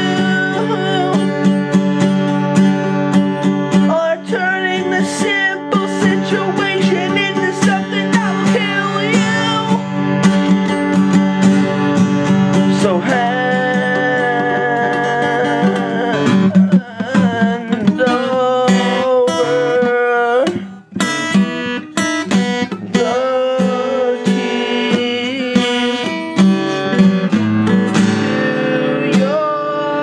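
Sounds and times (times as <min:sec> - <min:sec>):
person singing: 0:00.0 - 0:30.0
strummed acoustic guitar: 0:00.0 - 0:30.0.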